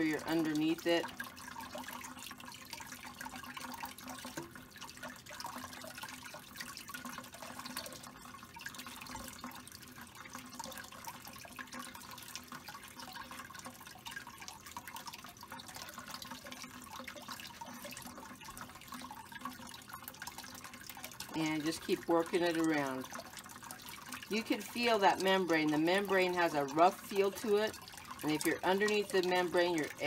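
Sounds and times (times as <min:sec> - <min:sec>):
faucet running into sink: 0:00.0 - 0:30.0
water splashing: 0:00.0 - 0:30.0.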